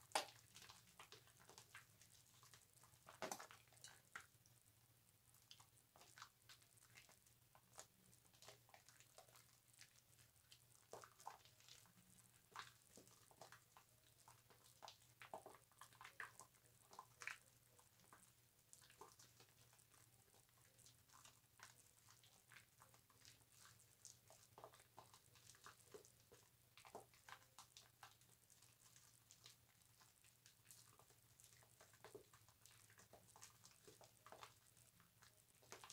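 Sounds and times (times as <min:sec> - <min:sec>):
soap being lathered with a loofah: 0:00.0 - 0:35.9.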